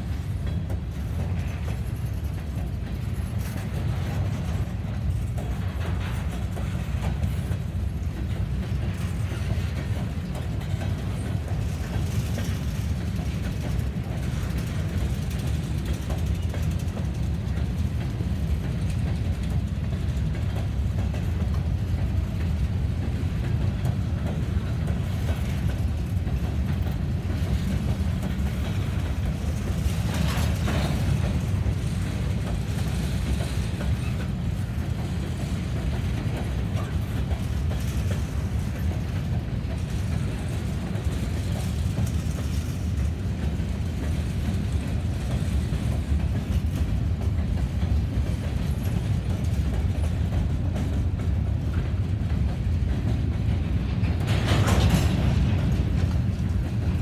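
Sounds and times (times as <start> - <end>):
faint clicking of wheels: 0.0 - 56.9
train wheels rumbling on rail: 0.0 - 57.0.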